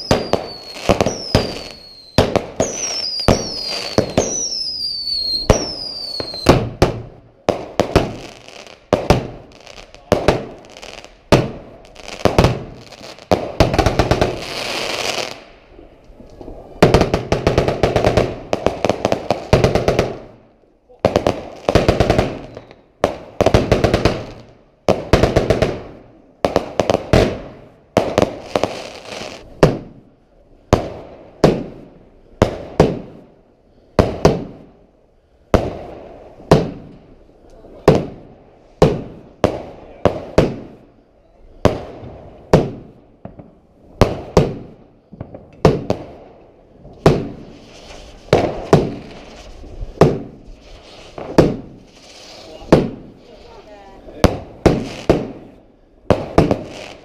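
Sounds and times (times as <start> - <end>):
fireworks banging: 0.0 - 30.1, 30.7 - 33.3, 34.0 - 34.8, 35.5 - 41.0, 41.6 - 57.0
crackling hiss: 0.0 - 57.0.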